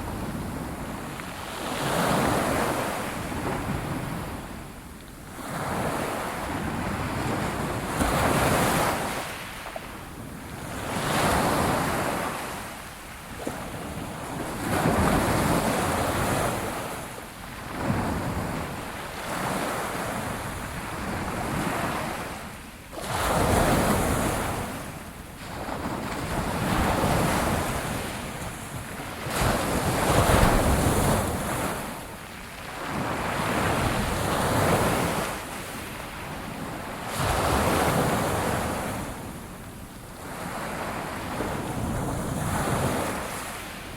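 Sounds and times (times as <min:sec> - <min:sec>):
ocean waves breaking on shore: 0:00.0 - 0:43.9.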